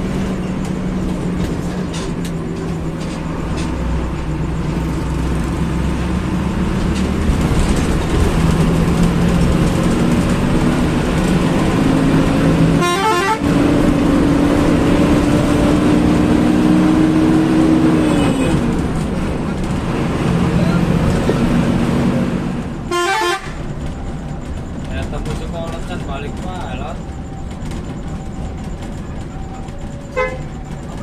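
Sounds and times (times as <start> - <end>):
bus engine accelerating: 0.0 - 31.0
road noise: 0.0 - 31.0.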